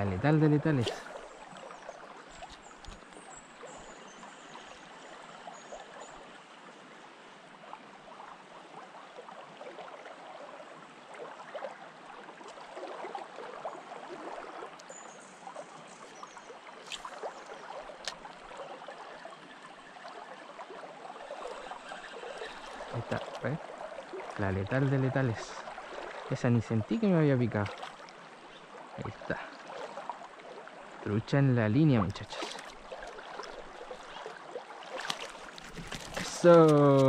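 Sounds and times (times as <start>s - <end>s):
river babbling over stones: 0.0s - 37.0s.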